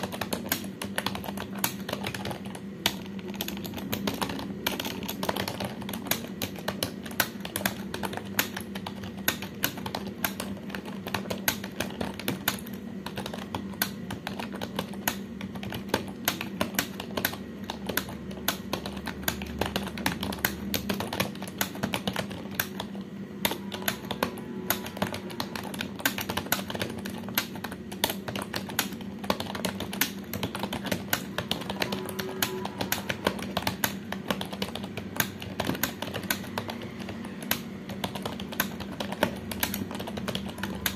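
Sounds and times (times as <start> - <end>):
fast keyboard typing: 0.0 - 40.9
steady low hum: 0.0 - 40.9.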